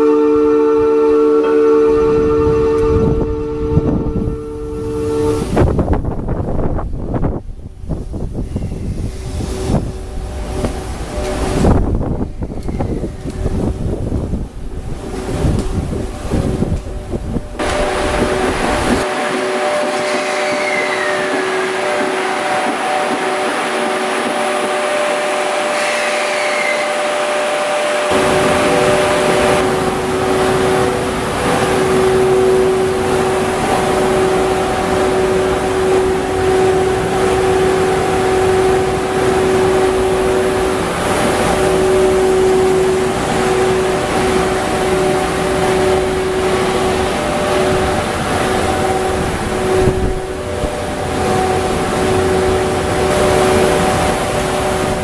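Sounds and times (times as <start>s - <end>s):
locomotive cooling blowers humming: 0.0s - 55.0s.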